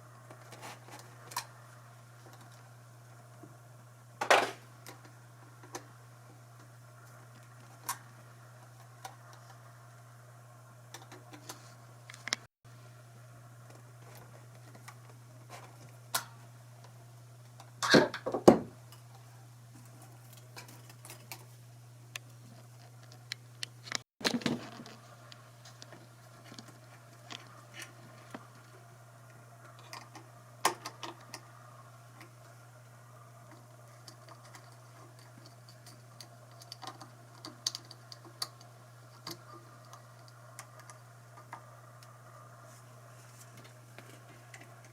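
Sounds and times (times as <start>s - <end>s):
faint low hum: 0.0s - 44.9s.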